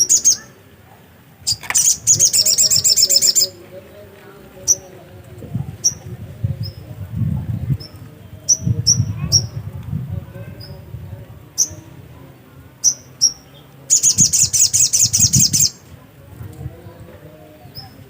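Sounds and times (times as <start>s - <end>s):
songbird chirping and twittering: 0.0s - 18.0s.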